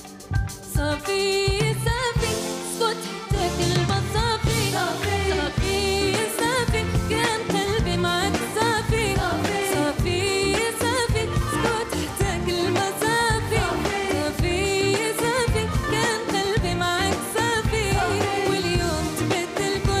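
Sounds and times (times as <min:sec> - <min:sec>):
pop band with steady beat: 0:00.0 - 0:20.0
person singing: 0:00.8 - 0:20.0.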